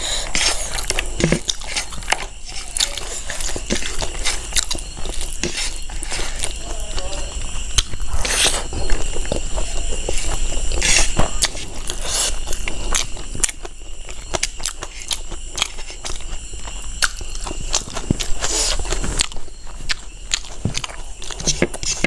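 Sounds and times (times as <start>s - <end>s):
loud crunches: 0.0s - 22.0s
chewing and wet mouth clicks: 0.3s - 6.6s, 7.7s - 22.0s.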